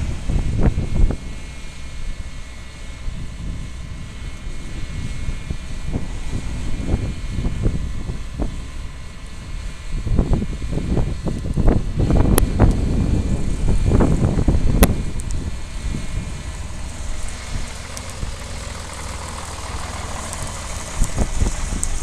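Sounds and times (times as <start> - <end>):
combine harvester engine drone: 0.0 - 22.0
low rumbling surges: 0.0 - 22.0.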